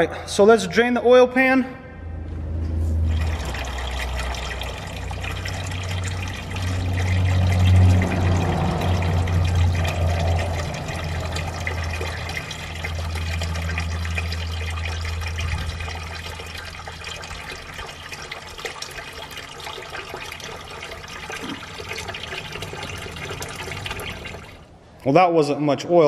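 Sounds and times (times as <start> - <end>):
low hum: 1.7 - 25.0
water draining into pan: 3.1 - 24.7.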